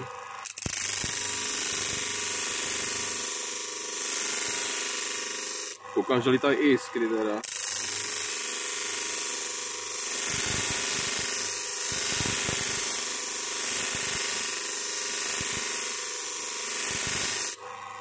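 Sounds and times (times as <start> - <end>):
bench grinder motor: 0.0 - 18.0
metal grinding rasp: 0.0 - 18.0.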